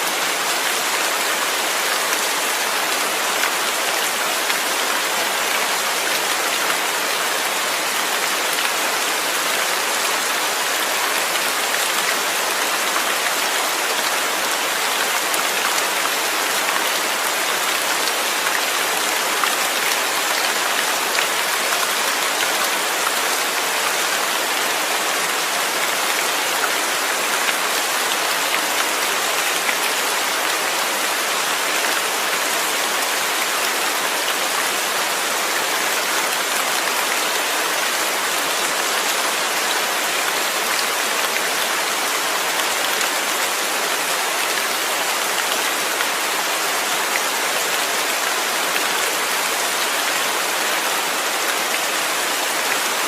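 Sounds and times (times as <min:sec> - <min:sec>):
steady rain on a surface: 0:00.0 - 0:53.0.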